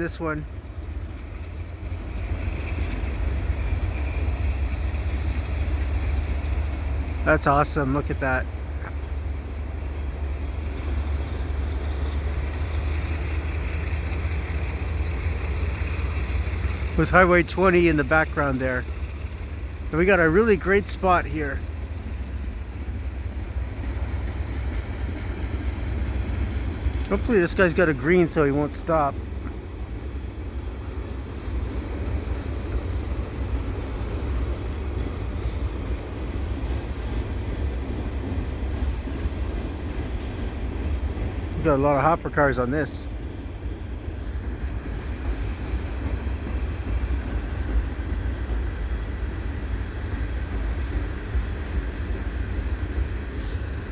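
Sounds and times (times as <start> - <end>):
freight train rumbling past: 0.0 - 53.9.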